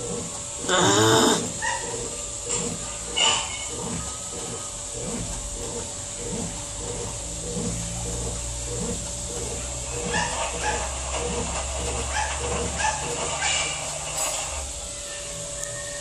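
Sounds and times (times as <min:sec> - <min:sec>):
washing machine agitating: 0:00.0 - 0:16.0.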